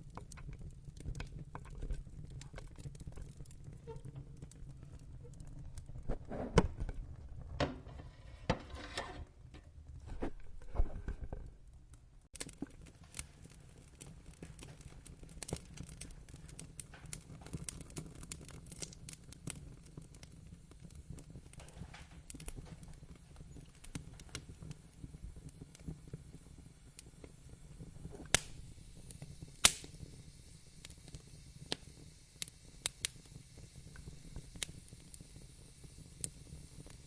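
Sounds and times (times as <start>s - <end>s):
low rumble of flame: 0.0s - 37.0s
wood fire crackling and popping: 0.0s - 37.0s.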